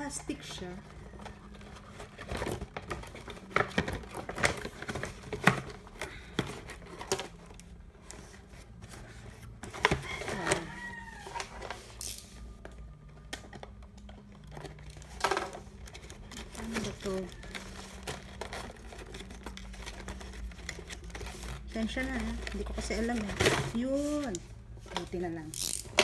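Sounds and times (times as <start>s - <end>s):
plastic packaging handled: 0.0s - 26.0s.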